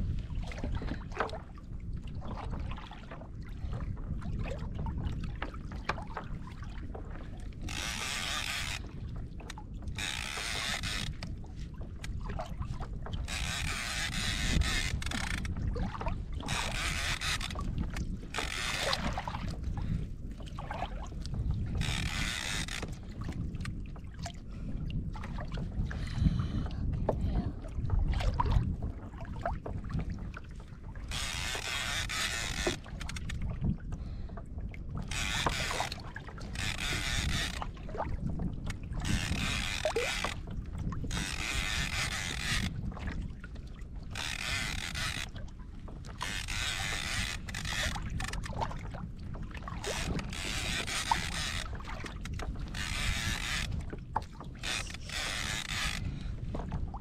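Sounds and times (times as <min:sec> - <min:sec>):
water sloshing against kayak hull: 0:00.0 - 0:57.0
wind rumbling on microphone: 0:00.0 - 0:57.0.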